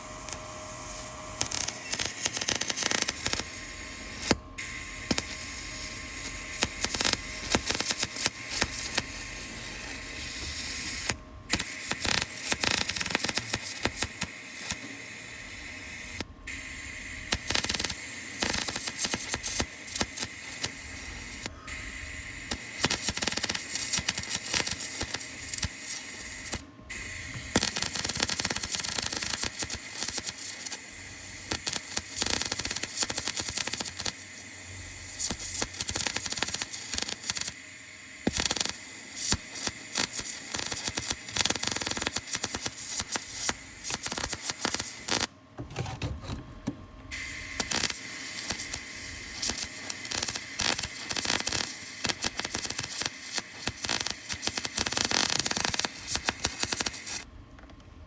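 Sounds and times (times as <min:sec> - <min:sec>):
welding arc crackling: 0:00.0 - 0:16.2, 0:17.0 - 0:21.5, 0:22.2 - 0:26.6, 0:27.2 - 0:45.3, 0:47.2 - 0:57.2.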